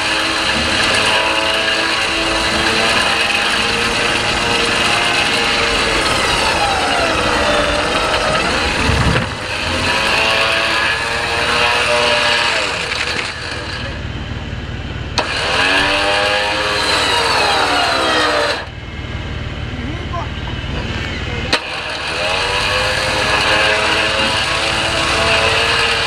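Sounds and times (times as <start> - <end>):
off-road engine revving hard: 0.0 - 26.0.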